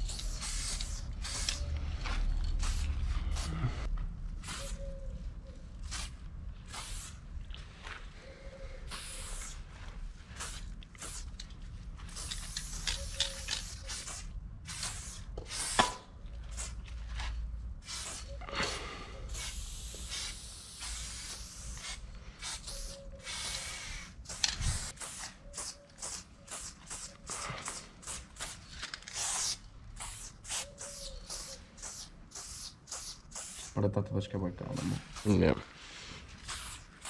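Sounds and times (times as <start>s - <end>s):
spray paint cans hissing: 0.0s - 3.7s, 4.4s - 5.0s, 5.8s - 7.2s, 8.8s - 16.9s, 17.8s - 33.8s, 34.7s - 37.0s.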